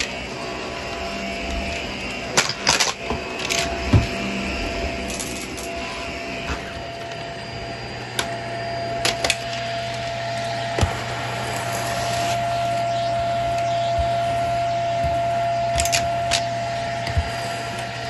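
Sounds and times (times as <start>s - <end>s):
vacuum cleaner motor humming: 0.0s - 18.0s.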